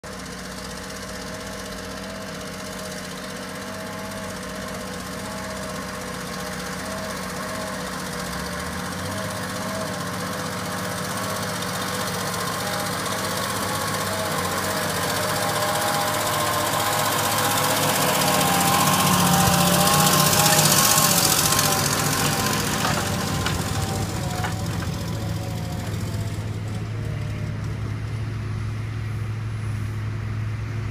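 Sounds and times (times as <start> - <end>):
tractor engine working under load: 0.0 - 30.9.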